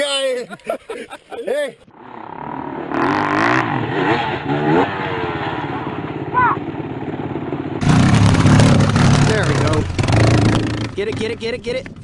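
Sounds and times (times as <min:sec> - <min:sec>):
dirt bike engine revving: 0:01.9 - 0:12.0.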